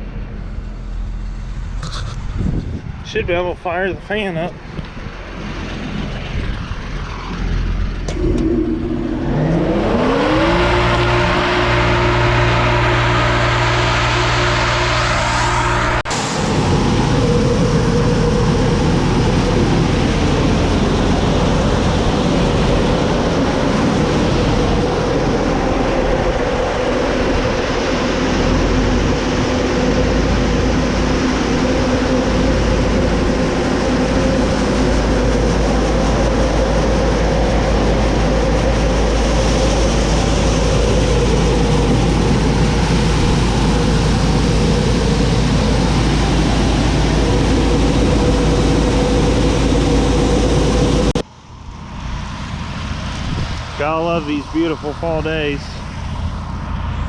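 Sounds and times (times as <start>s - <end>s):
fan roaring: 0.0s - 57.0s.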